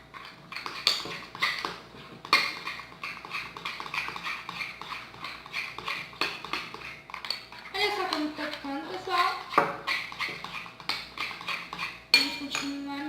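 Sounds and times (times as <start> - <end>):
utensil stirring slime: 0.0 - 13.0.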